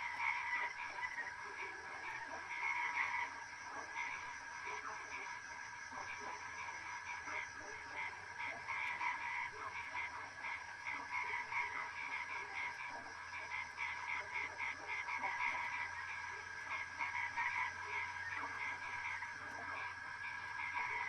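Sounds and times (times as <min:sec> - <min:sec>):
chorus of frogs calling: 0:00.0 - 0:21.0.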